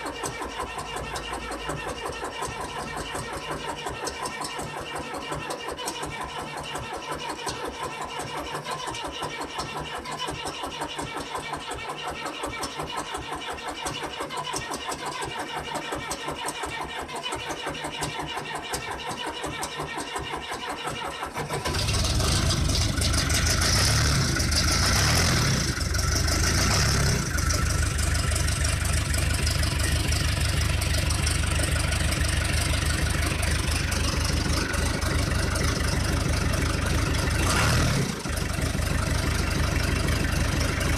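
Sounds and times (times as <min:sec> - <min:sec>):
diesel engine cranking on starter: 0:00.0 - 0:40.9
diesel engine running unevenly: 0:00.0 - 0:40.9.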